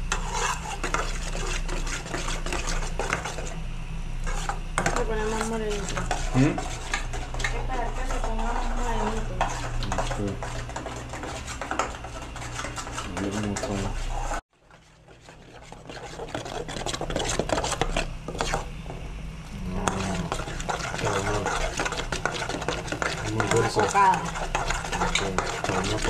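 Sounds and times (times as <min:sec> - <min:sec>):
spoon scraping pot: 0:00.1 - 0:03.6, 0:04.2 - 0:19.0, 0:19.7 - 0:26.0.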